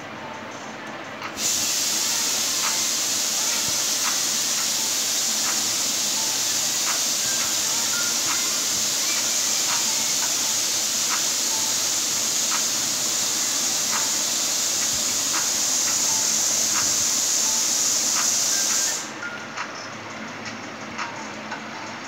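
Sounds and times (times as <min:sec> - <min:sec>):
loud steady hiss: 0:01.2 - 0:19.3.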